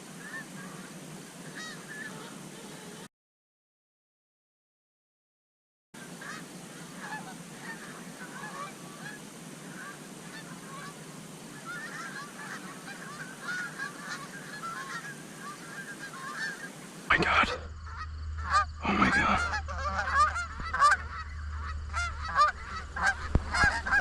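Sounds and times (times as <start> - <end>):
geese honking: 0.2 - 3.1, 6.2 - 11.0, 11.6 - 24.0.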